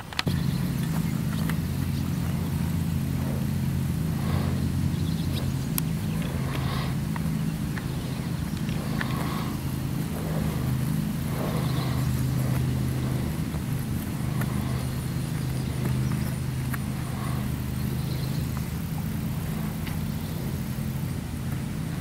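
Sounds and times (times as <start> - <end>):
motor idling: 0.0 - 22.0.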